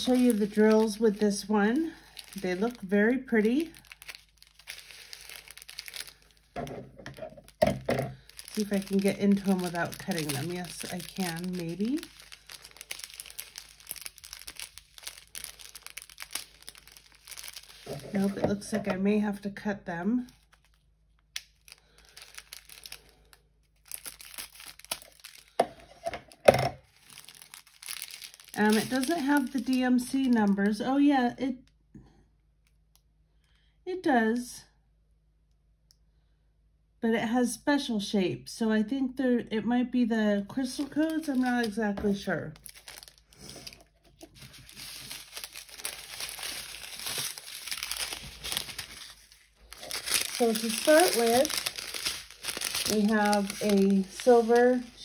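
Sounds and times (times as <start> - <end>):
plastic bags crinkling: 0.0 - 19.0, 20.2 - 30.8, 40.6 - 55.0.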